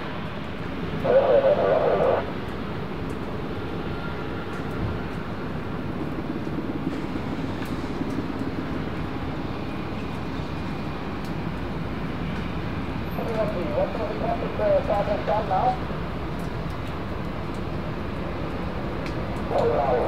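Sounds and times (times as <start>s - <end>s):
helicopter flying low: 0.0s - 20.0s.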